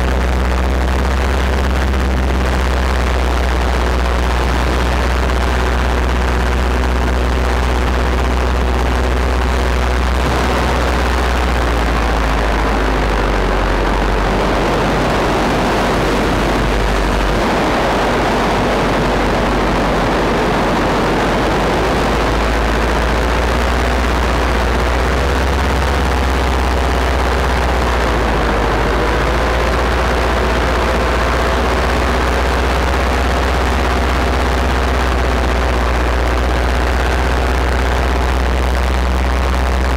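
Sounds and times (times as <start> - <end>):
rushing wind: 0.0 - 39.8
paramotor engine and propeller: 0.0 - 39.9.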